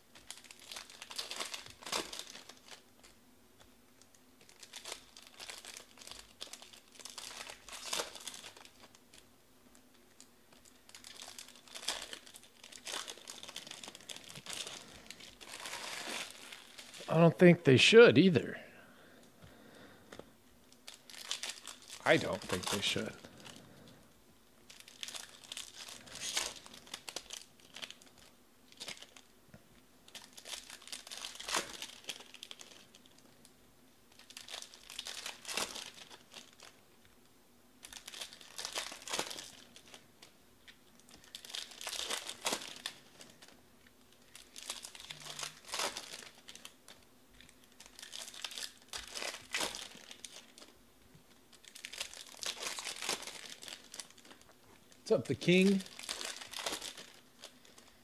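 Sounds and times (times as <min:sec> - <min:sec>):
card pack wrappers crinkling: 0:00.1 - 0:17.2, 0:20.7 - 0:23.9, 0:24.6 - 0:29.3, 0:30.1 - 0:33.4, 0:34.1 - 0:36.8, 0:37.8 - 0:58.0.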